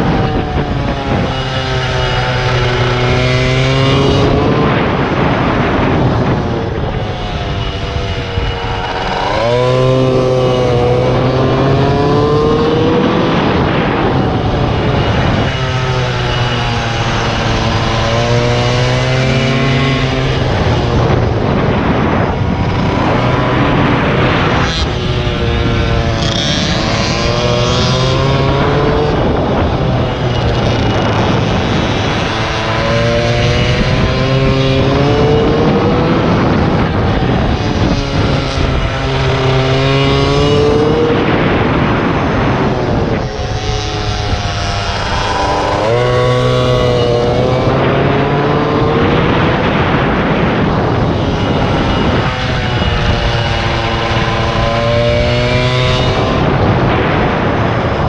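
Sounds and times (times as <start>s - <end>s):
motorbike engine revving: 0.0s - 58.0s
wind rushing over microphone: 0.0s - 58.0s.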